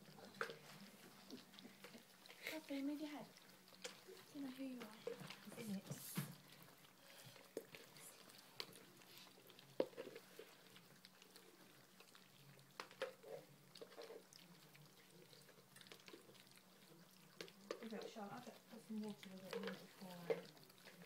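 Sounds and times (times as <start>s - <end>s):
puppies lapping food: 0.0s - 21.0s.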